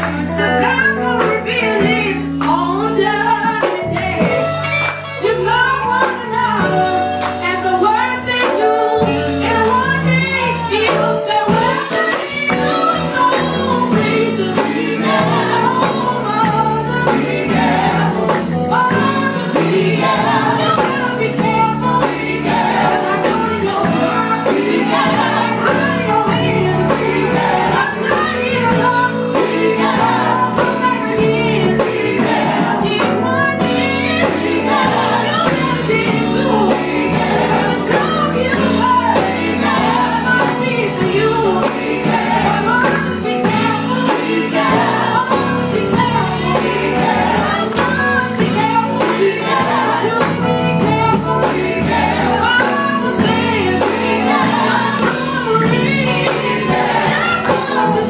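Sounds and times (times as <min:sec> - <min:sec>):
electric bass: 0:00.0 - 0:08.4, 0:12.4 - 0:58.0
electric guitar: 0:00.0 - 0:58.0
women singing gospel: 0:00.0 - 0:58.0.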